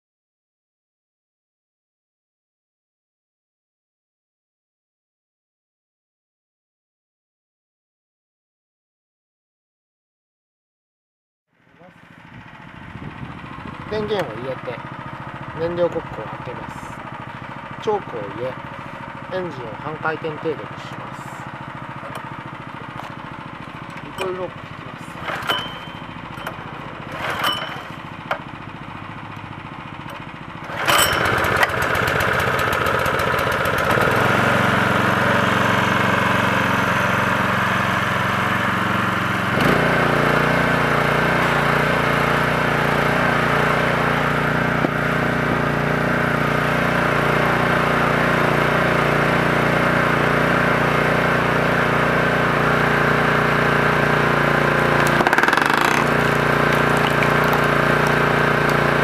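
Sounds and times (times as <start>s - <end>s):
small gasoline engine running: 11.6s - 59.0s.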